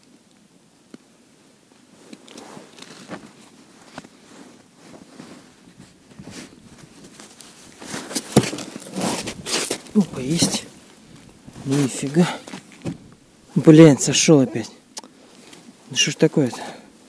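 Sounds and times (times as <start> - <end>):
jacket rustling: 1.9 - 16.0.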